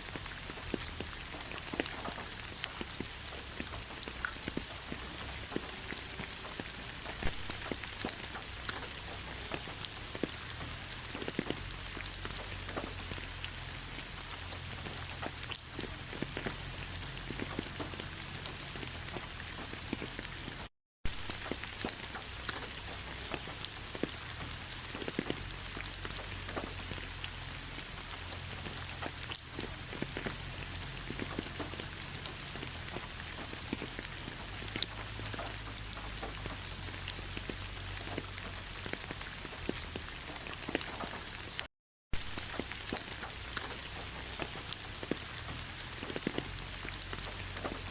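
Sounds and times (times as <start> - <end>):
rain pattering on leaves: 0.0 - 47.9.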